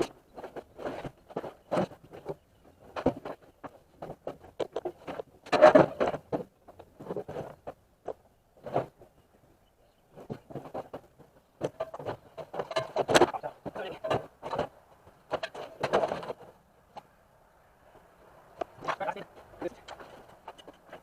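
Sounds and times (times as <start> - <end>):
objects clattering being handled: 0.0 - 9.4, 10.0 - 17.1, 18.5 - 21.0.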